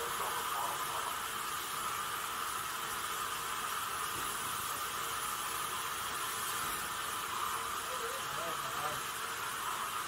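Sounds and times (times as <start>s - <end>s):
steam hissing from locomotive: 0.0s - 10.0s.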